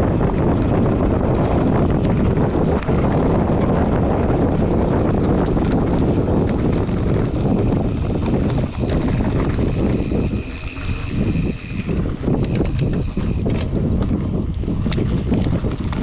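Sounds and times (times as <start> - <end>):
bike rattles and clicks: 0.0 - 16.0
wind buffeting microphone: 0.0 - 16.0.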